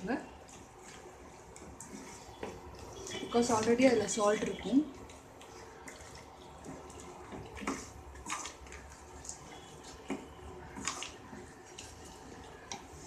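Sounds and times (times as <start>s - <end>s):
thick gravy sloshing: 0.0s - 13.0s.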